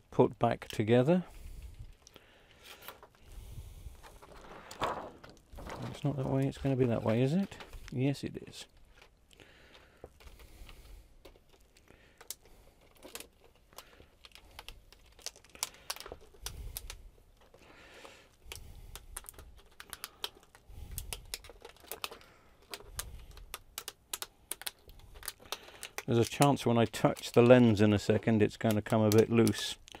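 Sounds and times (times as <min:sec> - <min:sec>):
plastic sheet clicking and crackling: 0:04.0 - 0:08.0, 0:08.6 - 0:30.0.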